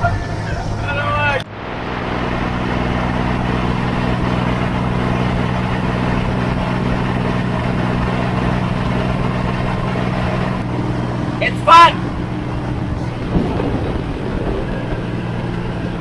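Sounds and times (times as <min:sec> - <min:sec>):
tractor engine droning: 0:00.0 - 0:16.0
wind and road noise: 0:00.0 - 0:16.0.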